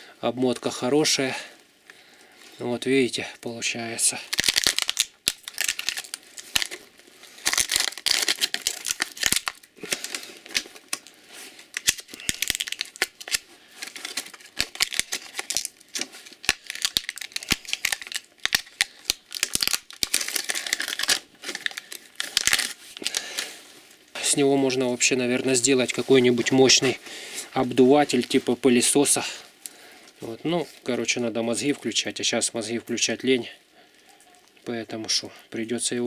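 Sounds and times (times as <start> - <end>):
crinkling and rustling: 0.4 - 35.9.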